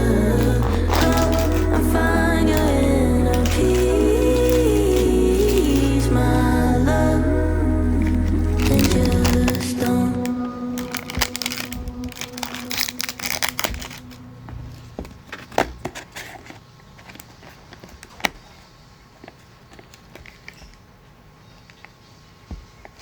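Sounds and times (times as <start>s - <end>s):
crinkling: 0.0s - 23.0s.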